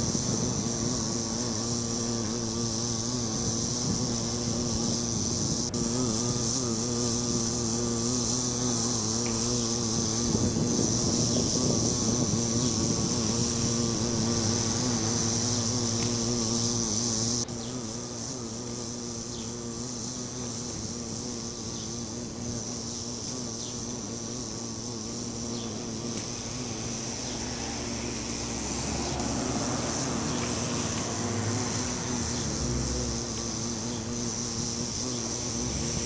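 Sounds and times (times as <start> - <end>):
bumblebees buzzing: 0.0 - 36.0
high-pitched hum: 0.0 - 36.0.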